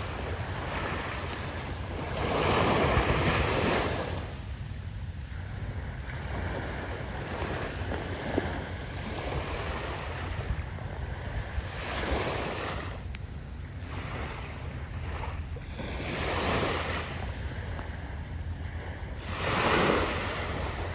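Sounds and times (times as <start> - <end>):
waves washing up beach: 0.0 - 20.9
wind rumble on microphone: 0.0 - 20.9.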